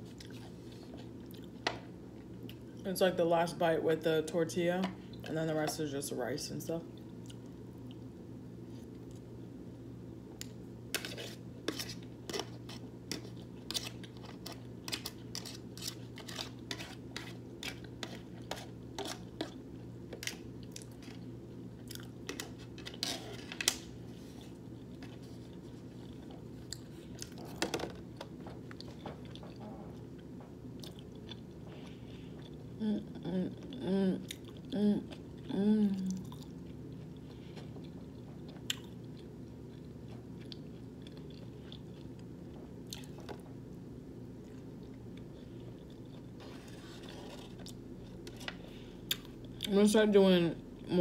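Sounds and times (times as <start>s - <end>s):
person chewing food: 0.0s - 2.8s, 7.0s - 8.1s, 10.4s - 32.8s, 33.5s - 43.5s, 44.4s - 49.7s
steady low hum: 0.0s - 51.0s.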